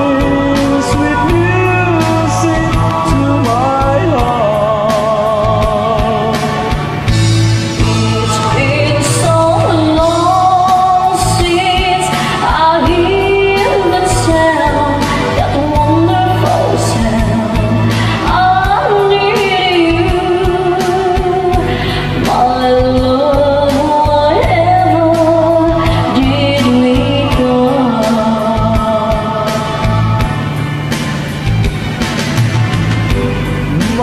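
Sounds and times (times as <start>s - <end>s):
person singing: 0.0s - 30.6s, 33.6s - 34.0s
pop ballad backing track: 0.0s - 34.0s.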